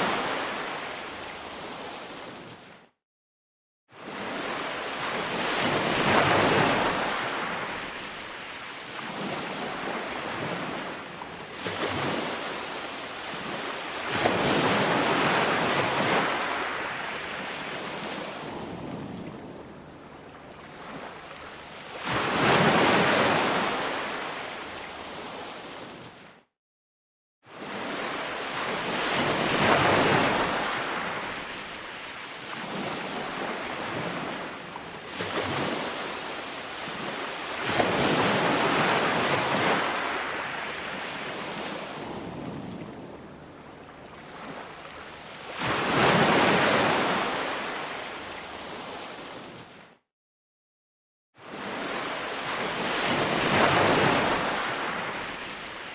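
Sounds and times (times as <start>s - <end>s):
ocean waves breaking on shore: 0.0s - 3.0s, 3.9s - 26.5s, 27.5s - 50.0s, 51.4s - 55.9s.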